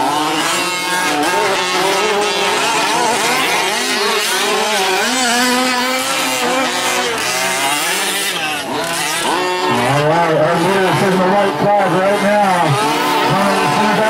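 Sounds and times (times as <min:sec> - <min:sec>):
small two-stroke engines revving: 0:00.0 - 0:14.0.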